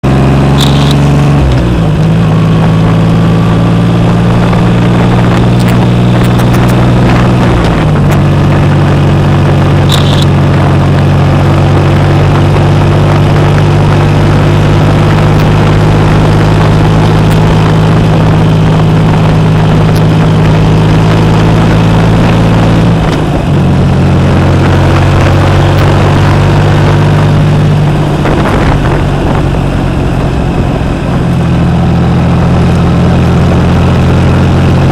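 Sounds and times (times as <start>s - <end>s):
motorcycle engine droning: 0.0s - 34.9s.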